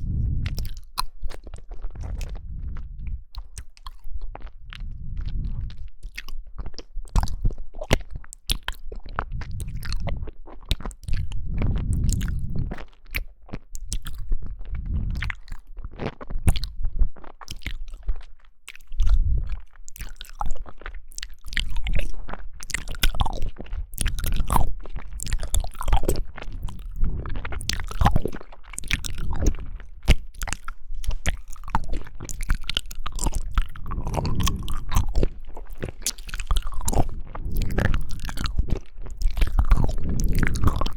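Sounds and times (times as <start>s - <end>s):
person chewing jelly: 0.0s - 40.9s.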